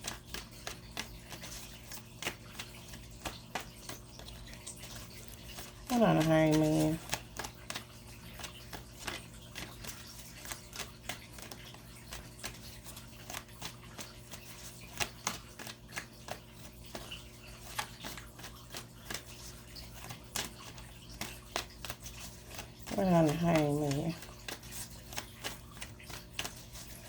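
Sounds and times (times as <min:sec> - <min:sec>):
cards being shuffled: 0:00.0 - 0:27.0.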